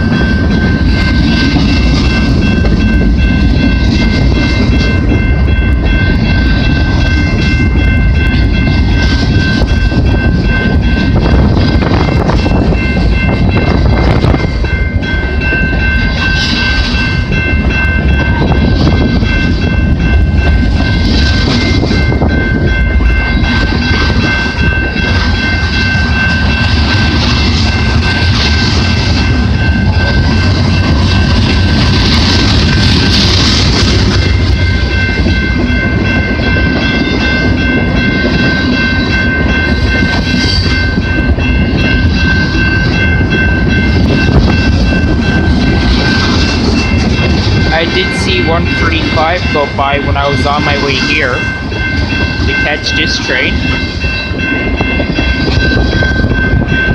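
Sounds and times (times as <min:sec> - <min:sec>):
train rumble: 0:00.0 - 0:56.9.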